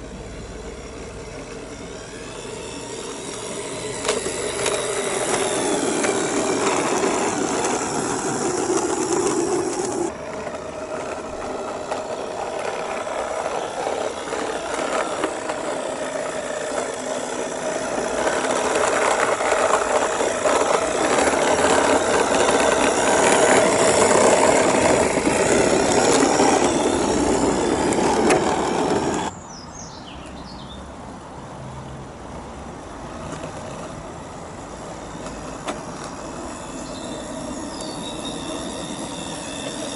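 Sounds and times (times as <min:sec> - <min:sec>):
model train motor whirring: 0:00.0 - 0:29.3, 0:32.8 - 0:39.9
wheels rattling on rails: 0:00.0 - 0:29.3, 0:32.4 - 0:39.9.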